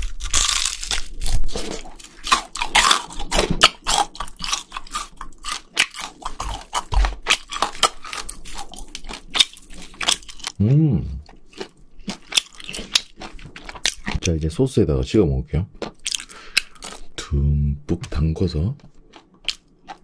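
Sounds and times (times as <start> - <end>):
crunchy fried chicken chewing: 0.0 - 10.6, 11.2 - 14.4, 15.8 - 17.1, 18.8 - 20.0.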